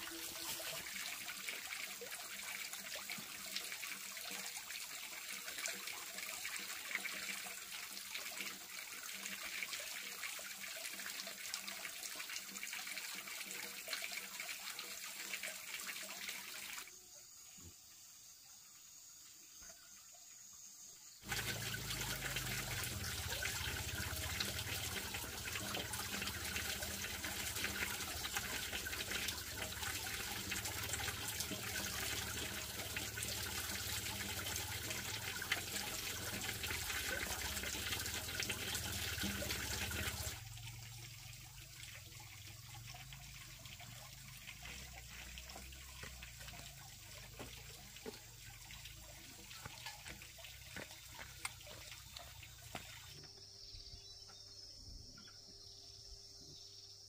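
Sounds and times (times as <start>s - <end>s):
running splashing water: 0.0s - 16.9s, 21.2s - 53.2s
water trickling: 0.0s - 20.6s, 21.2s - 53.4s.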